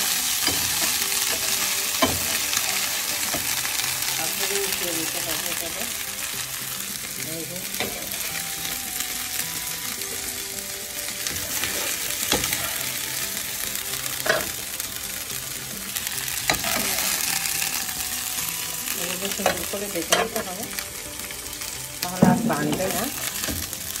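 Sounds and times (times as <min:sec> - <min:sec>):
chicken sizzling in a pan: 0:00.0 - 0:24.0.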